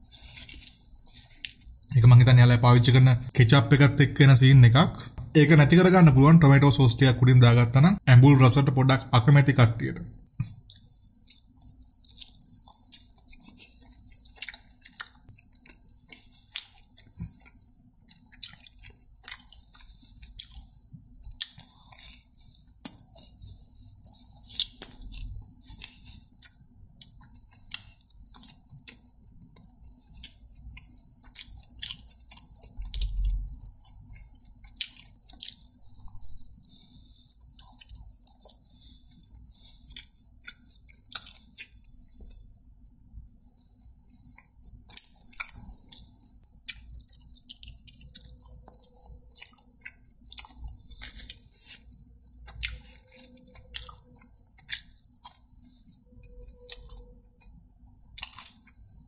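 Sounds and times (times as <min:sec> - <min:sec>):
person chewing and biting food: 0:00.0 - 0:01.9, 0:10.4 - 0:59.0.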